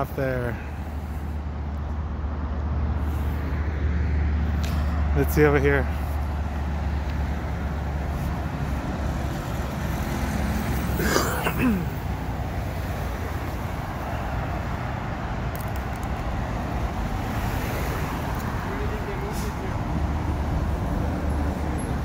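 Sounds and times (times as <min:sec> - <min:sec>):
low rumble of road traffic: 0:00.0 - 0:22.0
vehicle passing: 0:00.6 - 0:22.0.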